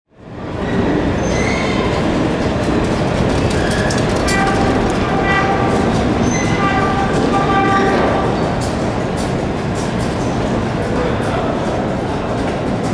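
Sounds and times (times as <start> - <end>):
subway train running in tunnel: 0.1 - 12.9
wheels clicking over rail joints: 2.0 - 12.9.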